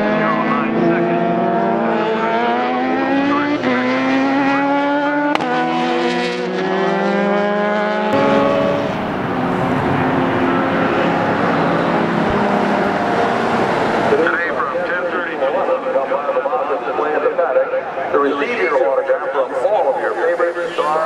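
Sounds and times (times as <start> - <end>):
race car engines accelerating: 0.0 - 21.0.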